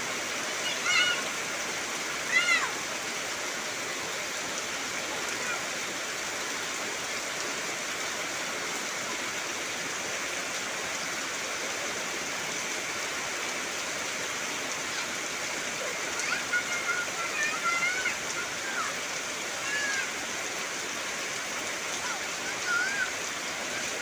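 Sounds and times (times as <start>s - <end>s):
heavy rain on trees: 0.0s - 24.0s.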